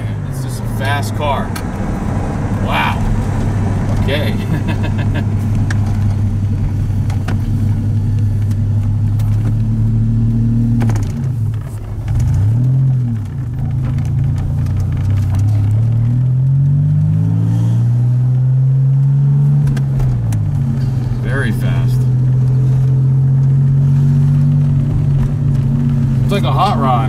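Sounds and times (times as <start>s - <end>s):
car engine revving from inside cabin: 0.0s - 27.0s.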